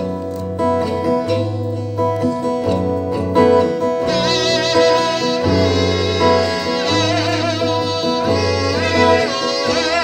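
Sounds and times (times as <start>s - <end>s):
acoustic guitar: 0.0s - 10.0s.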